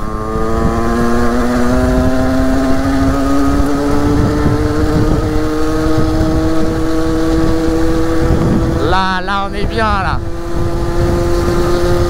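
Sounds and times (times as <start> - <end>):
dirt bike engine accelerating: 0.0 - 12.0.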